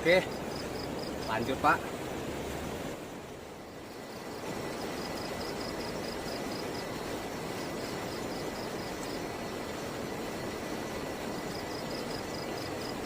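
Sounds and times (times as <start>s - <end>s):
insect chirping in pulses: 0.0s - 1.8s, 2.4s - 13.0s
river water flowing: 0.0s - 13.0s.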